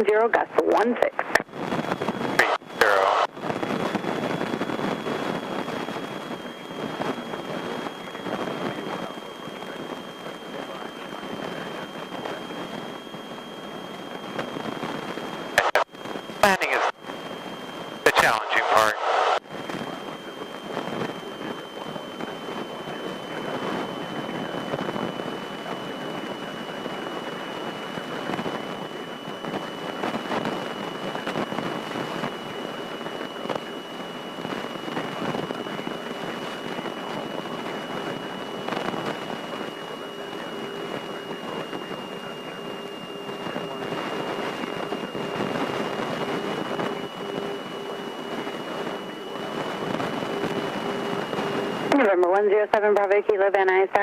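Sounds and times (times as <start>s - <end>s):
high electronic whine: 1.4s - 52.2s.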